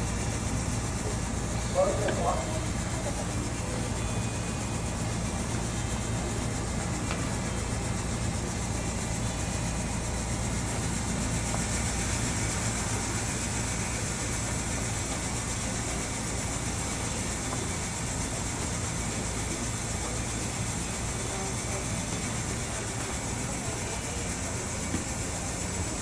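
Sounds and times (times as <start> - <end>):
stadium ambience hum and hiss: 0.0 - 26.0.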